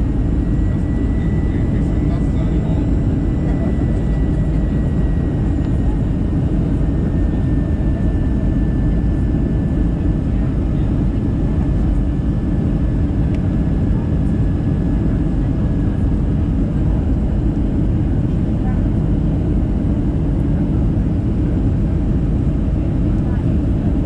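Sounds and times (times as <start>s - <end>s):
aircraft cabin airflow and engines: 0.0s - 24.0s.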